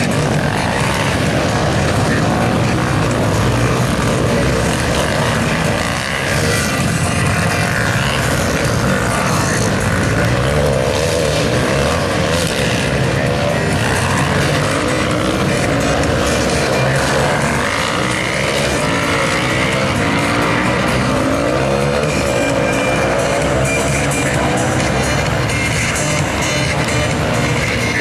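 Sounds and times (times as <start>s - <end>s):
motorcycle engines racing: 0.0s - 28.0s.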